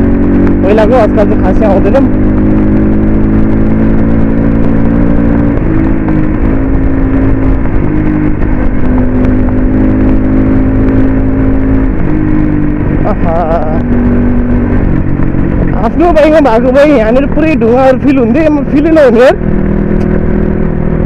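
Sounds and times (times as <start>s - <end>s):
dirt bike engine running: 0.0s - 21.0s
wind rumble on microphone: 0.0s - 21.0s.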